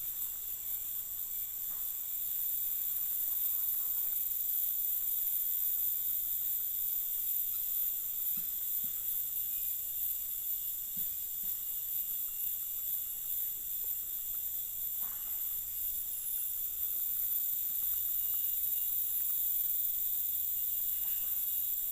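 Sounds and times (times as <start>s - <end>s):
insects trilling: 0.0s - 21.9s.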